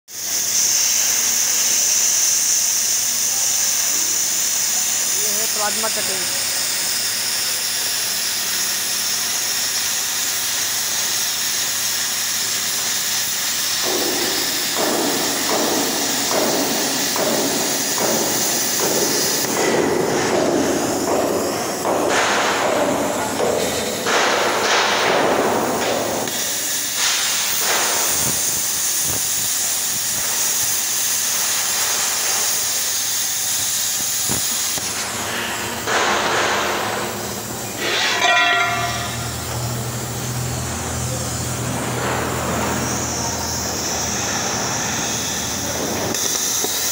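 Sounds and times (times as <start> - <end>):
plasma cutter torch hissing: 0.1 - 46.9.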